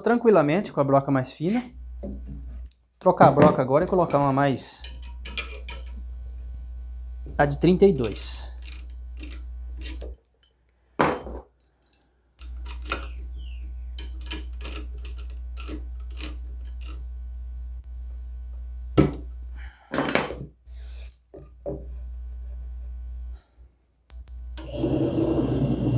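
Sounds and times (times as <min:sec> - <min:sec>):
steady low hum: 0:01.4 - 0:10.1, 0:12.4 - 0:19.9, 0:20.6 - 0:25.9.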